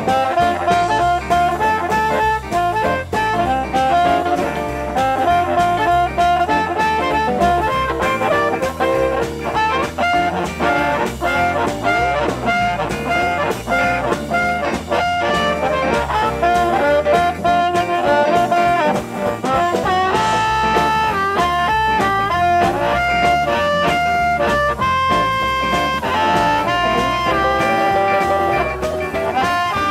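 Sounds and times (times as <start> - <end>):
amplified harmonica: 0.0 - 29.9
drums: 0.0 - 29.9
electric guitar: 0.0 - 29.9.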